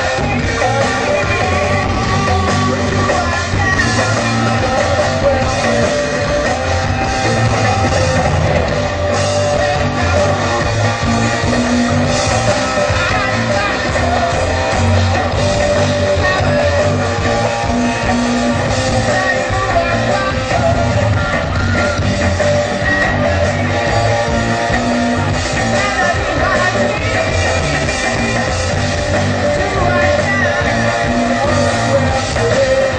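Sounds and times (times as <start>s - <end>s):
guitar: 0.0s - 32.9s
loud rock music: 0.0s - 32.9s
person singing: 0.0s - 32.9s
steady drum beat: 0.0s - 32.9s.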